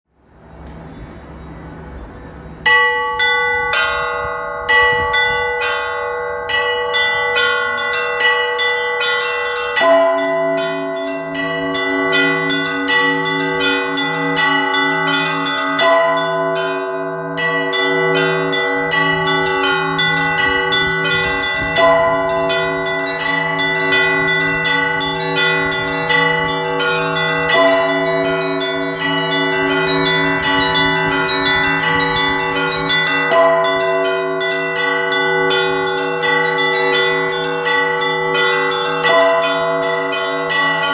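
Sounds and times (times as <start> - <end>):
large bell tolling: 0.4 - 40.9
small church bells ringing: 1.5 - 40.9.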